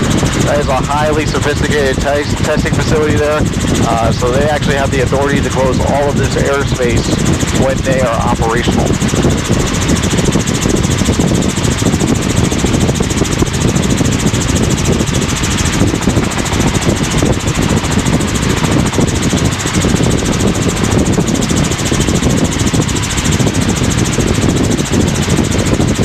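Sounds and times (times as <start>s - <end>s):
helicopter engine and rotor drone: 0.0s - 26.0s.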